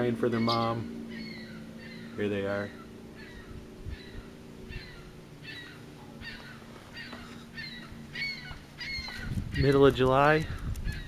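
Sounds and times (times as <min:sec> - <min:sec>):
nestling swallows chirping: 0:00.4 - 0:09.7.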